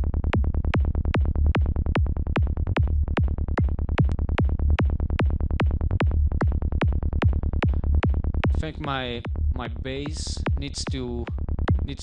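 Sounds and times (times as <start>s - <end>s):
punchy electronic kicks: 0.0s - 11.9s
steady low bass: 0.0s - 12.0s.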